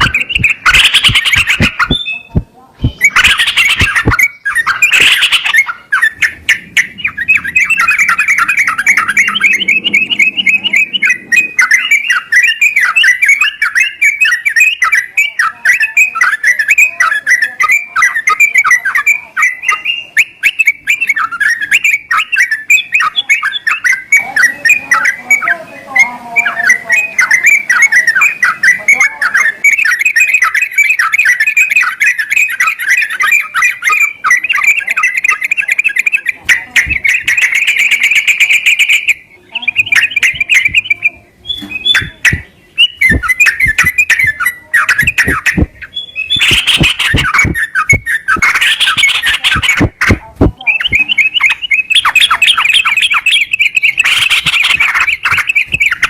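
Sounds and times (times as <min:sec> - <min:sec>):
bulbul song: 0:00.0 - 0:56.0.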